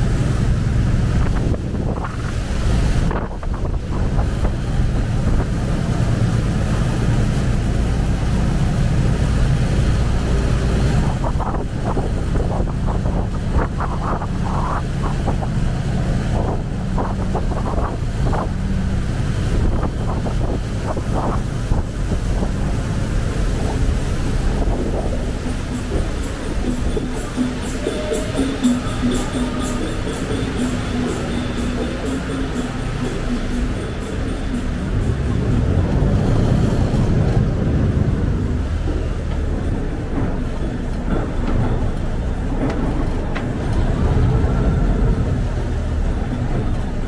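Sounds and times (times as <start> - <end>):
boat engine droning: 0.0 - 47.0
water rushing past hull: 0.0 - 47.0
wind buffeting microphone: 0.0 - 47.0.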